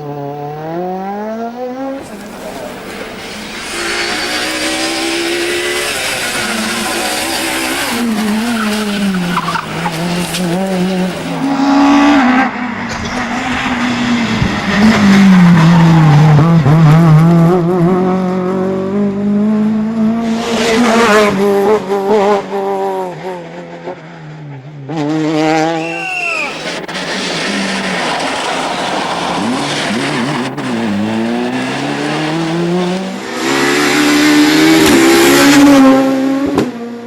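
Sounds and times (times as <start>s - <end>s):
rally car engine revving hard: 0.0s - 37.0s.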